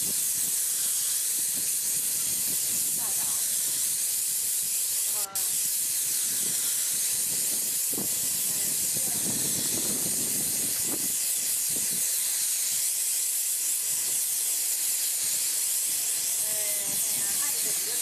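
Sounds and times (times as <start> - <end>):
paint spray gun hissing: 0.0 - 18.0.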